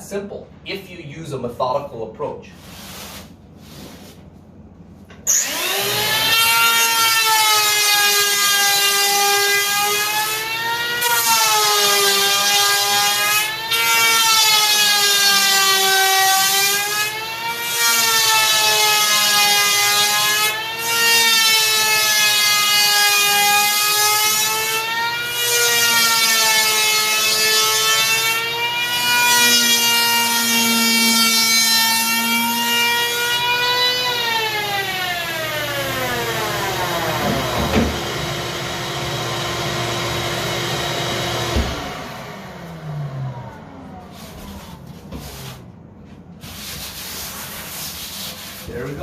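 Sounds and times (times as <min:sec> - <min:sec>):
electric hand planer cutting foam: 0:05.3 - 0:45.6.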